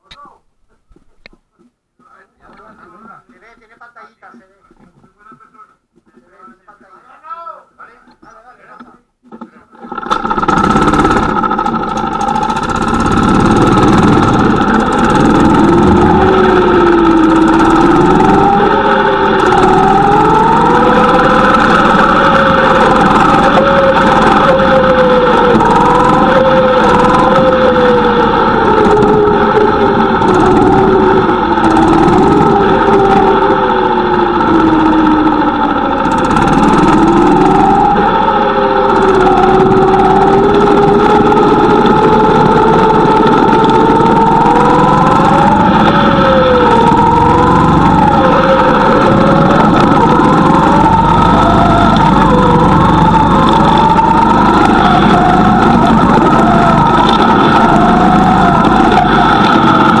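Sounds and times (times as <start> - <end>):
go-kart engine running: 9.4 - 60.0.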